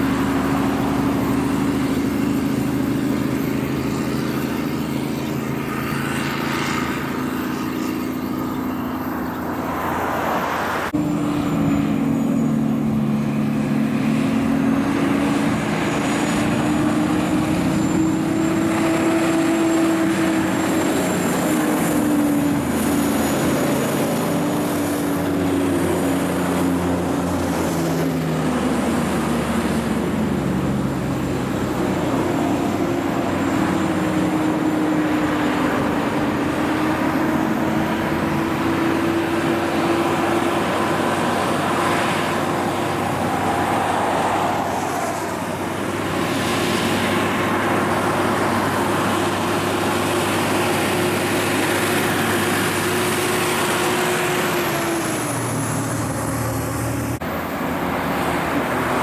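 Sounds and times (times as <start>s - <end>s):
diesel truck engines climbing: 0.0s - 59.0s
tyre and traffic noise: 0.0s - 59.0s.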